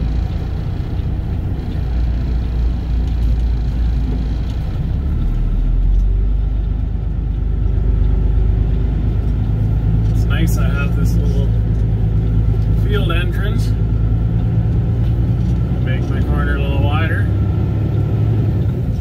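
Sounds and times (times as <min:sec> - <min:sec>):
diesel engine rumble inside cab: 0:00.0 - 0:19.0.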